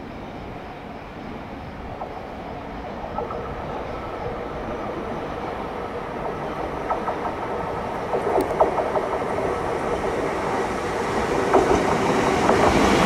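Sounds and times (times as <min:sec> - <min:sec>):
electric train approaching on rails: 0:00.0 - 0:13.0.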